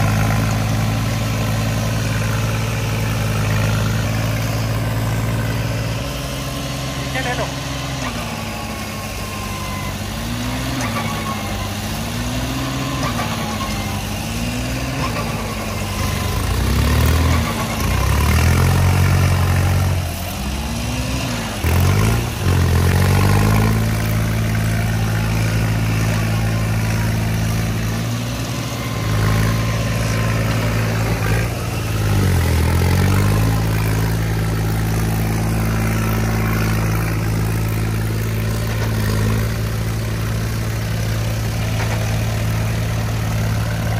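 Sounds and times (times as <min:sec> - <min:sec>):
diesel tractor engines working hard: 0:00.0 - 0:43.9
tyres churning mud: 0:00.0 - 0:43.9.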